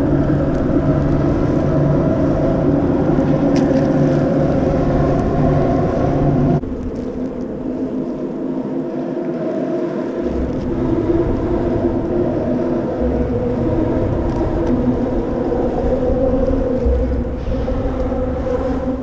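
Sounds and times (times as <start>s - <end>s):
low rumble: 0.0s - 9.2s, 10.0s - 19.0s
boat engine droning: 0.0s - 19.0s.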